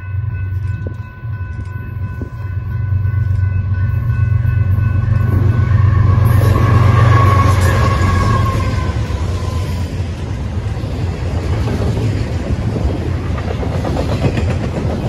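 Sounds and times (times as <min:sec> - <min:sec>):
diesel locomotive engine rumble: 0:00.0 - 0:15.0
wheel and rail noise: 0:00.0 - 0:15.0.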